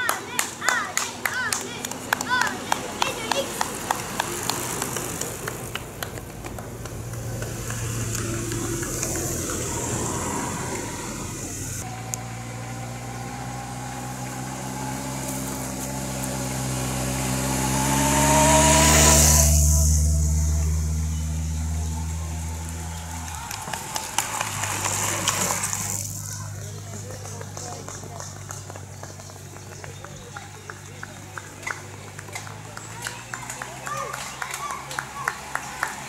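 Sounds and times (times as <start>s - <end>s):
roadside noise: 0.0s - 36.0s
vehicle engine passing by: 0.0s - 36.0s.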